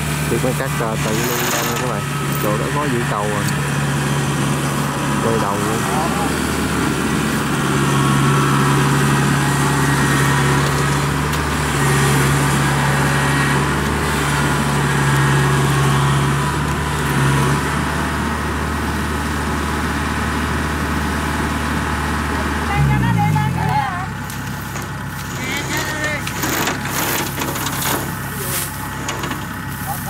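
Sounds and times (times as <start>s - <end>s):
engines running under load: 0.0s - 30.0s.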